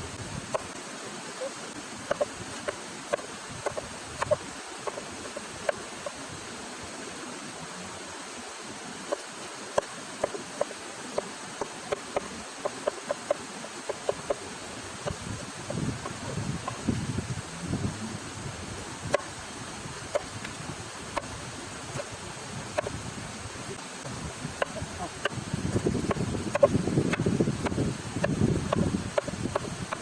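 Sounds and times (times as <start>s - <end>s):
steady rushing hiss: 0.0s - 30.0s.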